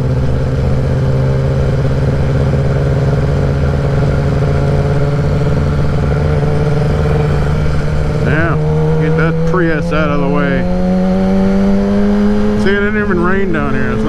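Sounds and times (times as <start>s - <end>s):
motorcycle engine cruising: 0.0s - 14.0s
road noise: 0.0s - 14.0s.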